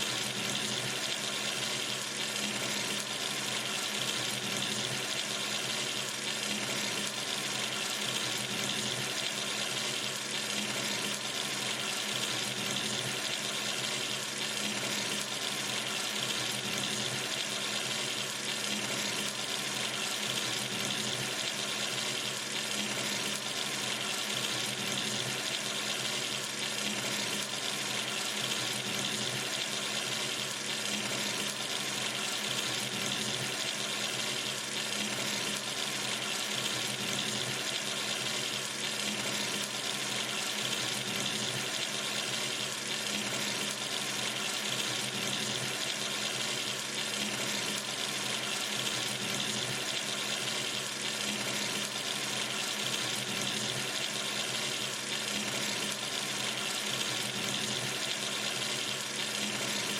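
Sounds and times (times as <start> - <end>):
tap water pouring into sink: 0.0 - 59.9.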